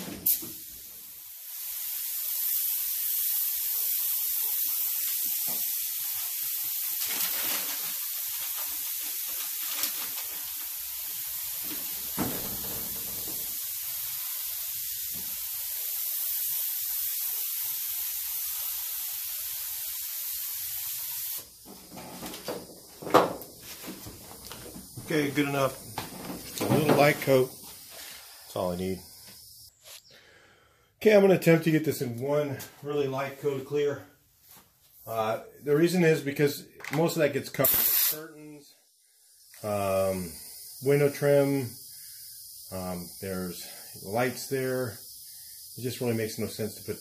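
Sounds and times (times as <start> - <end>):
spray gun hissing: 0.0 - 30.1, 37.5 - 38.4, 39.2 - 47.0.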